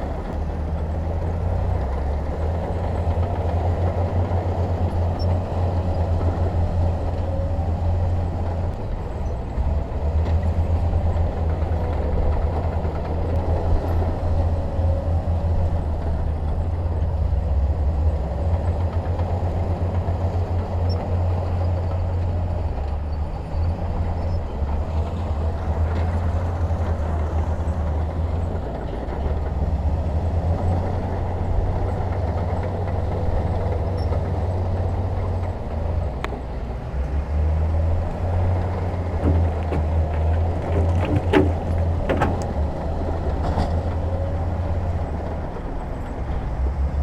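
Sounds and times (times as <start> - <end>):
heavy diesel engine rumbling: 0.0 - 47.0.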